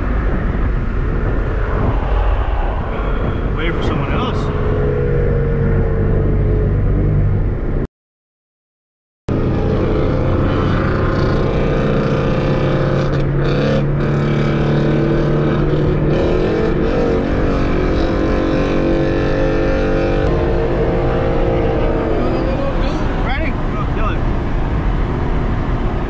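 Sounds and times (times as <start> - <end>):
car engine and road noise: 0.0 - 7.9, 9.3 - 26.0.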